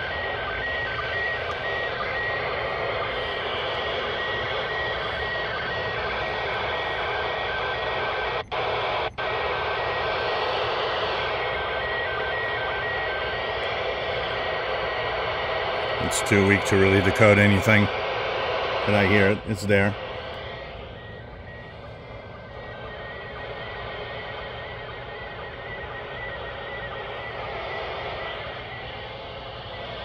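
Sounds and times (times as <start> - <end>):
radio static: 0.0 - 30.0.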